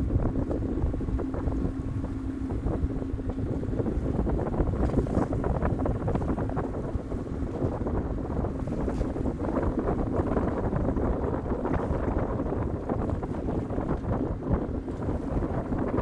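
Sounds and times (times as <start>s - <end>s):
boat engine hum: 0.0s - 16.0s
wind buffeting microphone: 0.0s - 16.0s.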